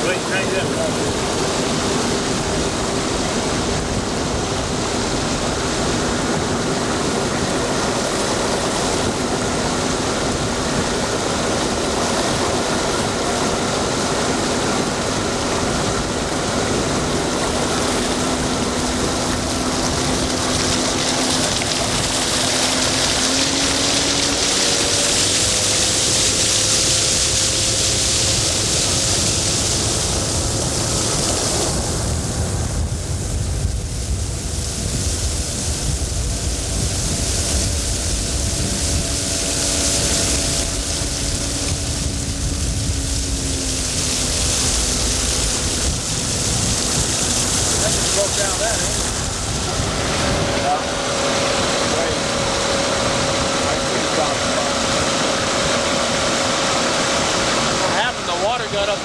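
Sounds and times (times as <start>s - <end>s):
boat motor running: 0.0s - 59.0s
water rushing: 0.0s - 59.0s
wind noise: 0.0s - 59.0s.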